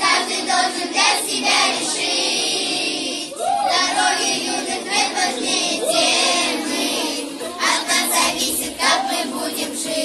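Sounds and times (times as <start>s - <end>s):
children singing in unison: 0.0s - 10.0s.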